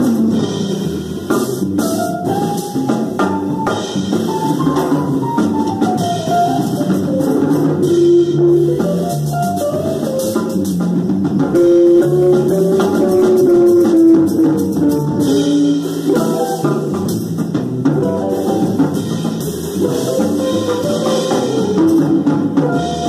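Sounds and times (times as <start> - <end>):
drum kit: 0.0 - 23.0
jazz melody line: 0.0 - 23.0
upright bass walking: 0.0 - 23.0.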